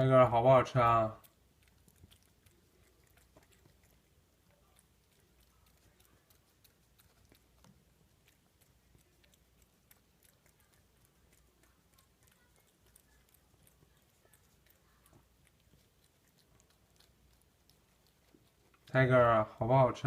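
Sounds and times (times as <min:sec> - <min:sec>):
faint chewing clicks and crunches: 0:00.0 - 0:20.0.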